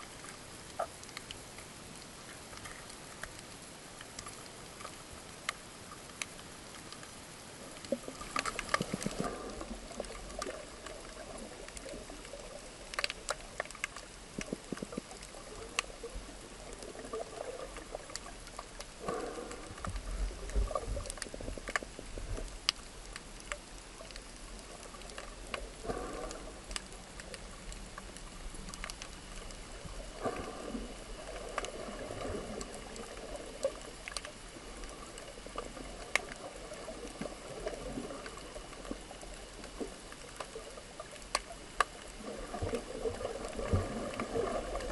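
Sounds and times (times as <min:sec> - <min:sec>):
muffled underwater wash: 0:00.0 - 0:44.9
sharp underwater clicks: 0:00.0 - 0:44.9
swish of moving water: 0:00.0 - 0:44.9.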